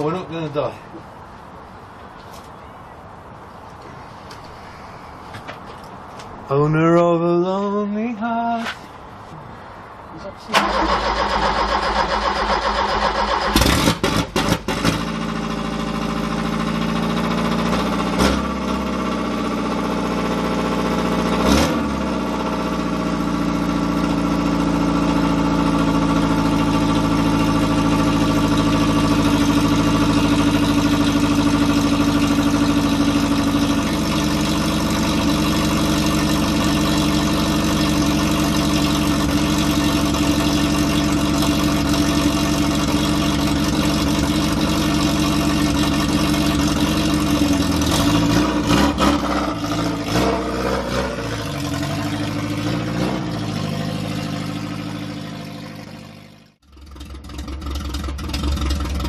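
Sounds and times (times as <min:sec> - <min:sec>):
car engine idling: 0:00.0 - 0:59.0
car pulling away: 0:10.6 - 0:59.0.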